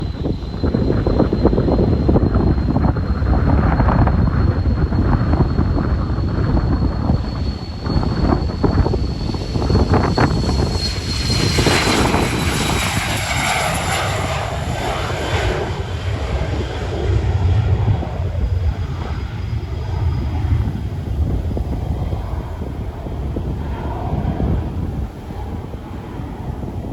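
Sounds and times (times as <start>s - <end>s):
jet engines passing with whine: 0.0s - 26.9s.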